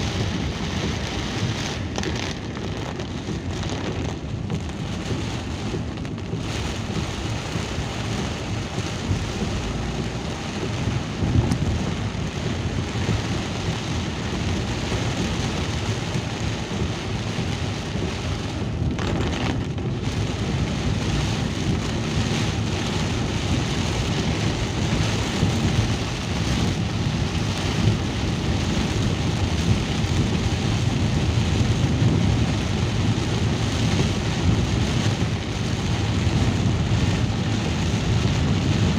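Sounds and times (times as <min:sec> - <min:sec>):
low rumble: 0:00.0 - 0:38.9
steady rain hiss: 0:00.0 - 0:38.9.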